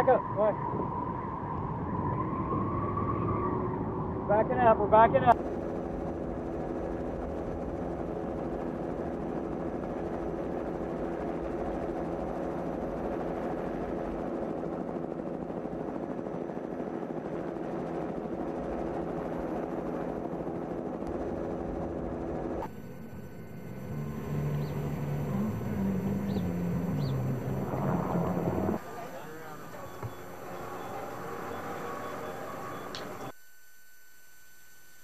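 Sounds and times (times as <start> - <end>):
helicopter engine and rotor drone: 0.0 - 1.8, 3.6 - 35.0.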